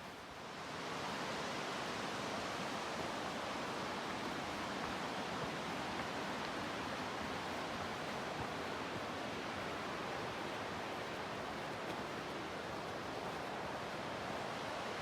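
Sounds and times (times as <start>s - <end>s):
rushing river water: 0.0s - 15.0s.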